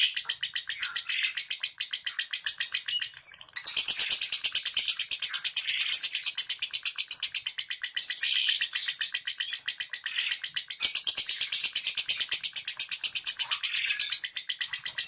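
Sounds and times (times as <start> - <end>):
lovebird ticking trill: 0.0 - 15.0.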